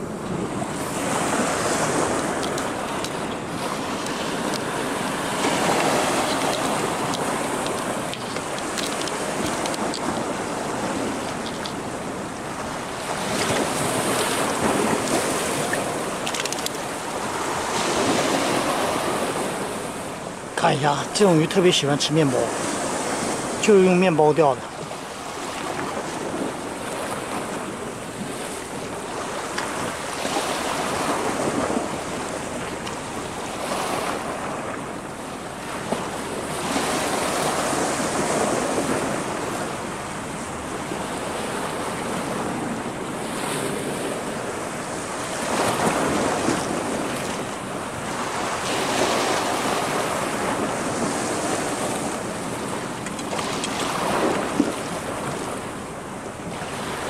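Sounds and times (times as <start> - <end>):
sea waves washing on rocks: 0.0 - 57.0.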